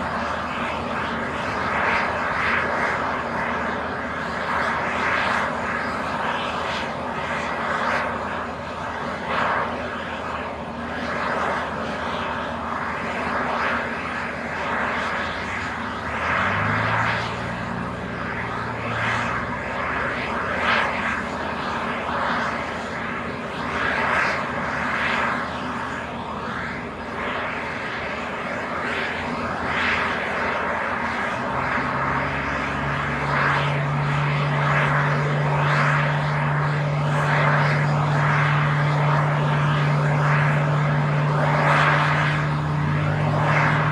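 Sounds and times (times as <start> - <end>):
jet airliner rushing noise: 0.0 - 43.9.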